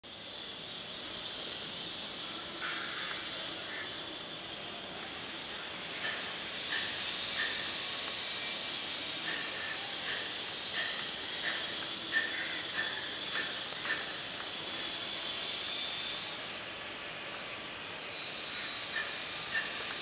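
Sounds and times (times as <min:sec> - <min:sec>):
steady background hiss: 0:00.1 - 0:20.0.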